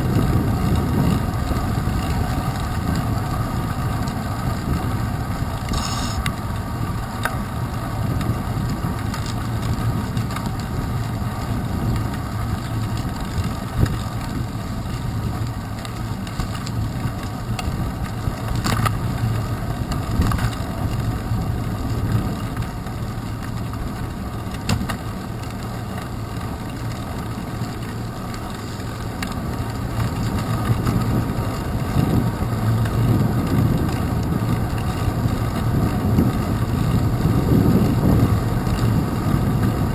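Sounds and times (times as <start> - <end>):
bicycle tyres rolling: 0.0 - 39.9
wind rumble: 0.0 - 39.9.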